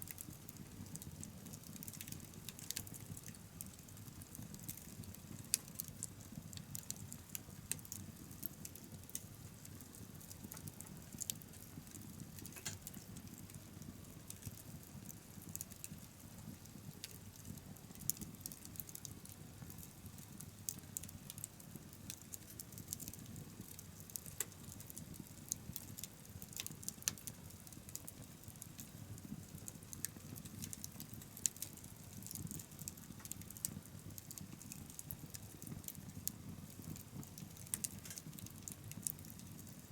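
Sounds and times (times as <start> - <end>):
bonfire crackling: 0.0 - 39.9
low rumble of burning: 0.0 - 39.9.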